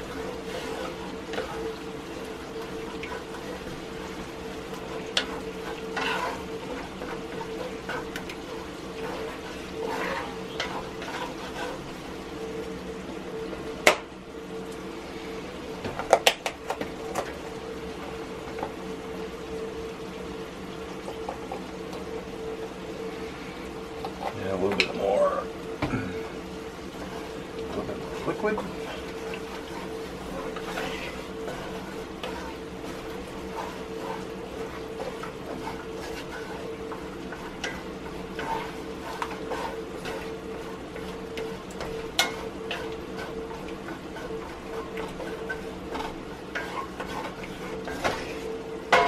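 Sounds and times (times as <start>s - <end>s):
roux sizzling in a skillet: 0.0s - 49.0s
steady hum: 0.0s - 49.0s.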